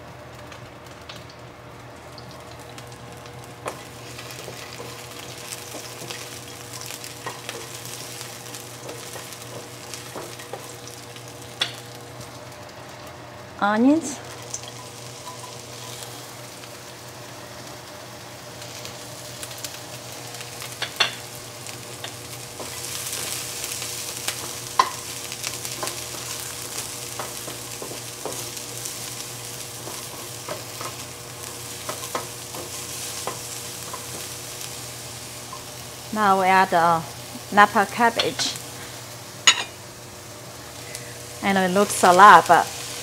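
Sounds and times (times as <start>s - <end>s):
onion and garlic sizzling in oil: 0.0s - 43.0s.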